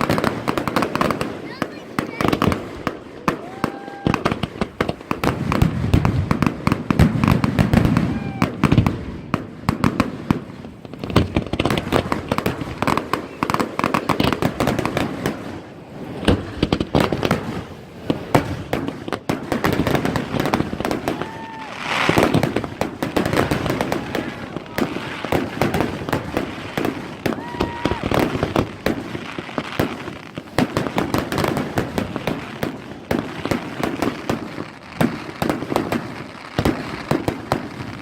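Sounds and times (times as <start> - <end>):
fireworks bangs and crackles: 0.0 - 38.0
fireworks whistling: 0.0 - 38.0.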